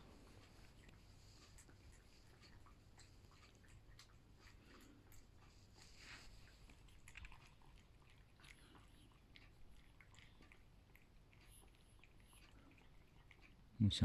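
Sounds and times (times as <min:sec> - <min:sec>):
cat crunching food: 0:00.0 - 0:13.8.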